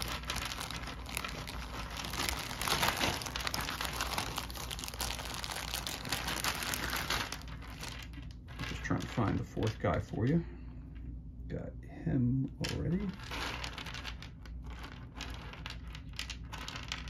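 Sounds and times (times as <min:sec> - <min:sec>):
plastic bag crinkling: 0:00.0 - 0:10.4, 0:12.6 - 0:17.0.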